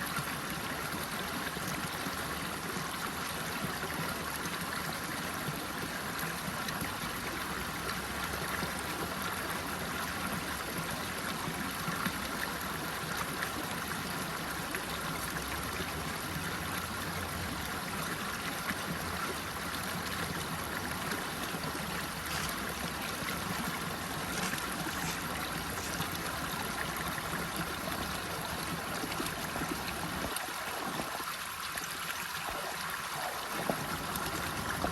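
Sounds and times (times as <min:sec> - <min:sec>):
rushing flowing water: 0:00.0 - 0:34.9.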